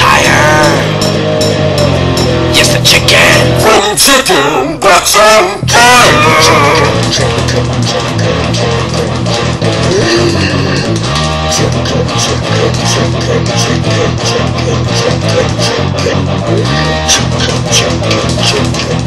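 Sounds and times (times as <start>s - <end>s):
instrumental rock music: 0.0s - 4.0s, 5.6s - 19.0s.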